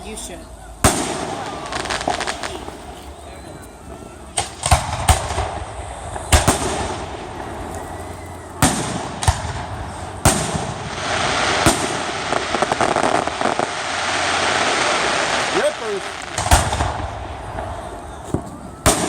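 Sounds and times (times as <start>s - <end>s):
dense rush of noise: 0.0s - 18.9s
fireworks booming: 0.1s - 19.0s.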